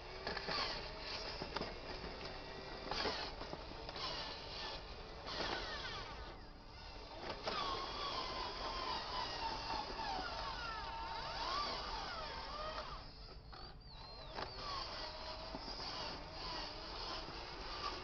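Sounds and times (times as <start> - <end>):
toy truck electric motor whining: 0.0 - 18.0.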